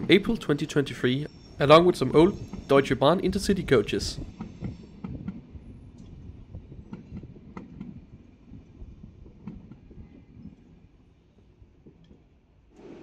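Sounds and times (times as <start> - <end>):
train rolling rumble: 0.0 - 13.0.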